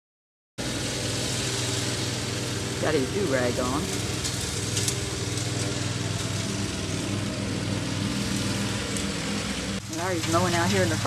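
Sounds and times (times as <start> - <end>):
riding lawn mower engine running: 0.6 - 11.0.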